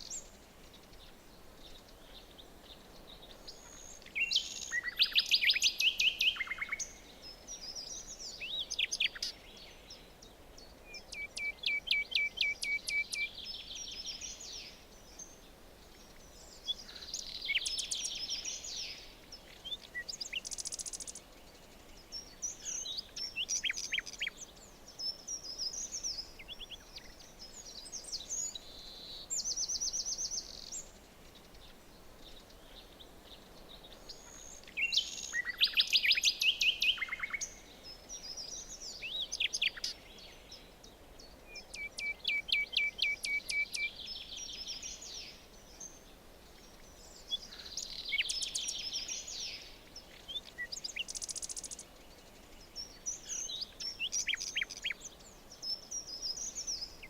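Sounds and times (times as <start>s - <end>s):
faint background hiss: 0.0s - 57.0s
songbirds trilling and chirping: 0.0s - 57.0s.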